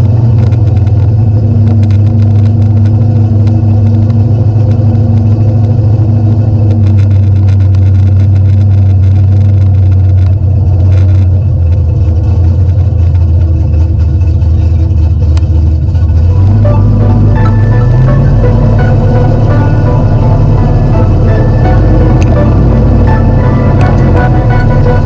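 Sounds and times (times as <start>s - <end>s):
car engine deep exhaust note: 0.0s - 25.0s.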